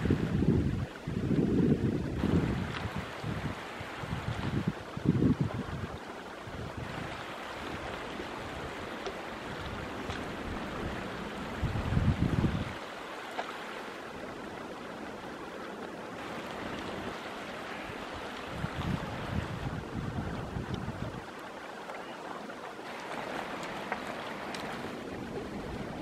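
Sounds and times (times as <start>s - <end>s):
wind buffeting microphone: 0.0s - 13.0s, 14.1s - 21.7s, 22.8s - 26.0s
stream babbling over stones: 0.0s - 26.0s.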